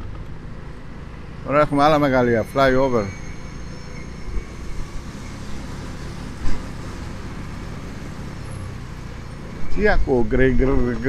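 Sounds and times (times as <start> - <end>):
motorcycle engine rumble: 0.0 - 11.0
wind and road noise: 0.0 - 11.0.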